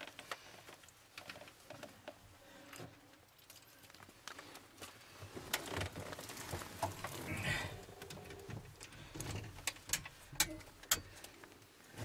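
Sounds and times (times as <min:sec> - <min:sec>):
rustling and handling clicks: 0:00.0 - 0:12.0.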